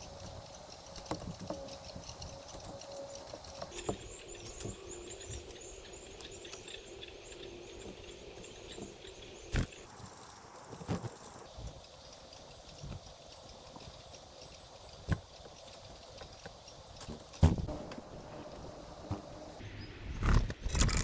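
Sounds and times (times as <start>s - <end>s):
birds tapping on wood: 0.0s - 18.0s
small birds chirping: 0.0s - 20.1s.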